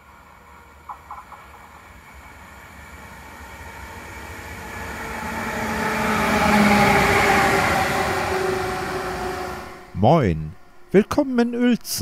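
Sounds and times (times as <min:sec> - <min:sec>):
train rolling on rails: 0:00.0 - 0:10.2
electric locomotive passing: 0:00.0 - 0:11.8.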